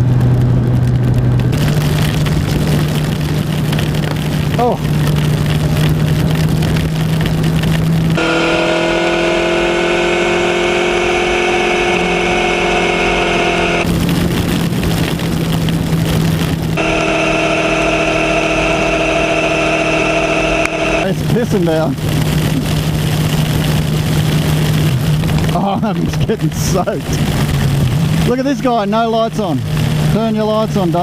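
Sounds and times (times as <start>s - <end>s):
motorcycle engine running: 0.0s - 31.0s
rain noise: 0.0s - 31.0s
wind noise: 0.0s - 31.0s.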